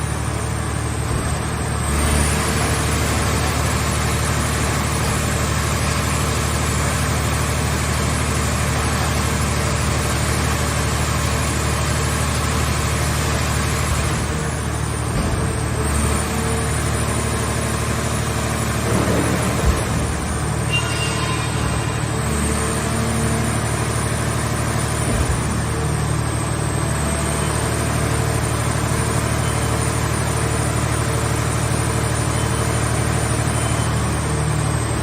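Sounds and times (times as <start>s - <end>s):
baler engine and hydraulics running: 0.0s - 35.0s.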